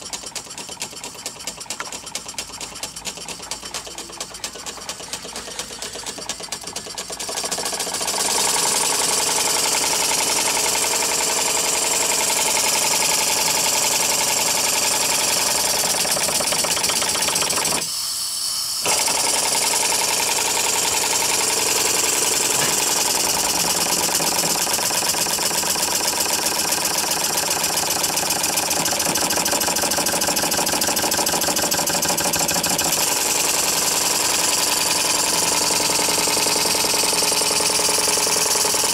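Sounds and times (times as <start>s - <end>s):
model steam engine exhaust beats: 0.0s - 38.9s.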